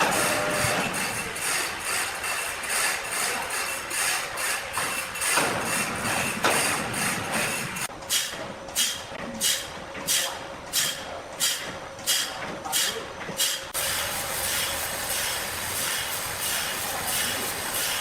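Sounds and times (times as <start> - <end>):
sawmill machinery hissing pulse: 0.0 - 8.2, 8.8 - 18.0.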